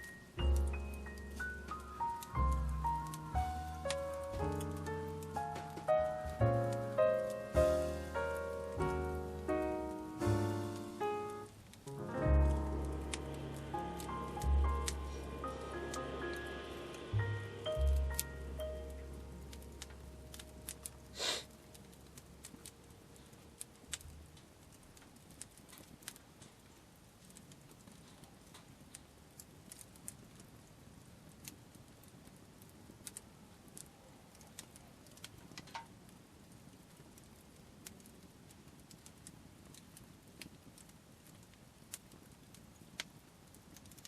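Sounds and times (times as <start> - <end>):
campfire crackling and popping: 0.0 - 44.0.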